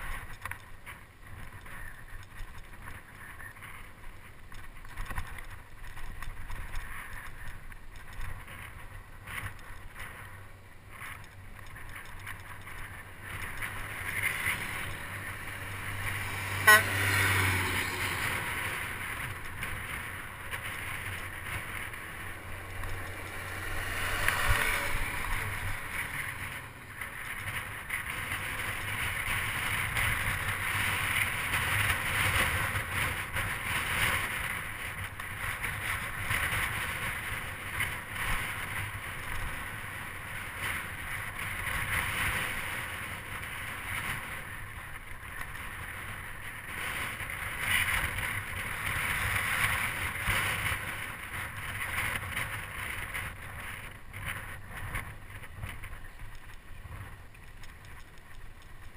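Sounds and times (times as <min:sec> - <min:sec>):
bicycle tyres on asphalt: 0:00.0 - 0:58.9
wind: 0:00.0 - 0:58.9
passing motor traffic: 0:00.1 - 0:58.9.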